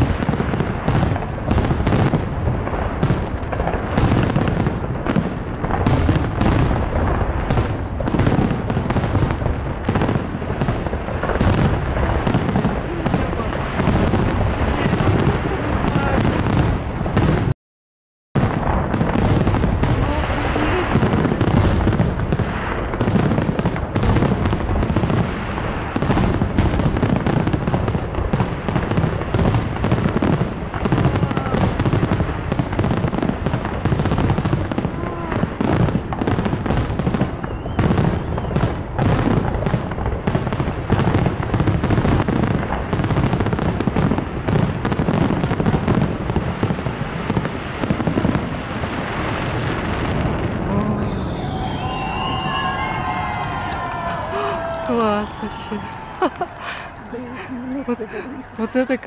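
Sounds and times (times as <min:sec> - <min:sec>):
fireworks bursting: 0:00.0 - 0:17.6, 0:18.4 - 0:59.0.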